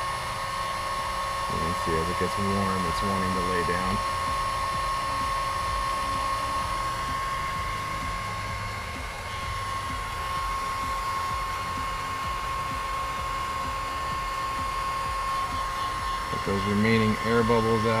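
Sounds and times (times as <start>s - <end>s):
heat gun fan whining: 0.0s - 18.0s.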